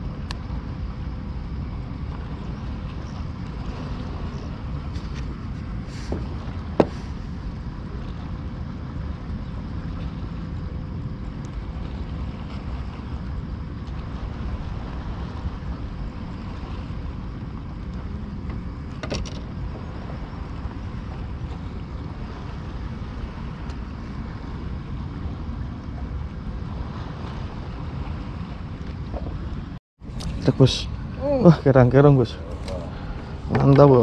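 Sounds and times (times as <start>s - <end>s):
wind on microphone: 0.0s - 34.0s.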